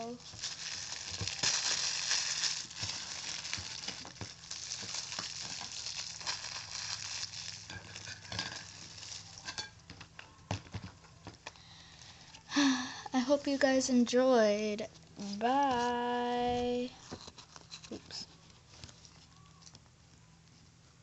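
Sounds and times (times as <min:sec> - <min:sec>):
crackly rustling handling noise: 0:00.0 - 0:12.5, 0:13.3 - 0:21.0.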